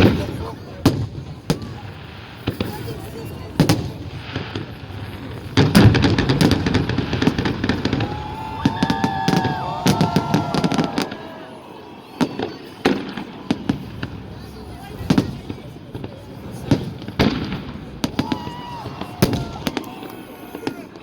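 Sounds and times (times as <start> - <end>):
fireworks bangs and crackling: 0.0 - 21.0
fireworks whistling: 1.5 - 20.8.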